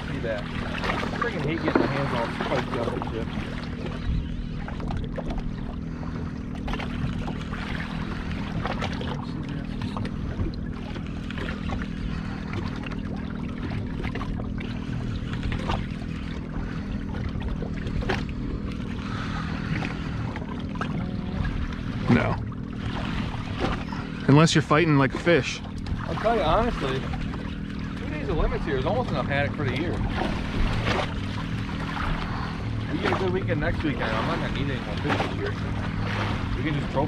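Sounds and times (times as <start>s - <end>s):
outboard motor idling: 0.0s - 37.0s
water washing: 0.0s - 37.0s
wind: 0.0s - 37.0s.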